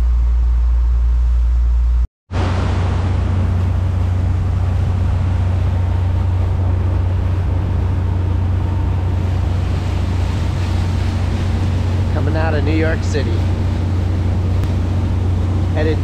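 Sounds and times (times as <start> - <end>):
boat engine drone: 0.0 - 16.0
water rushing along hull: 2.3 - 16.0.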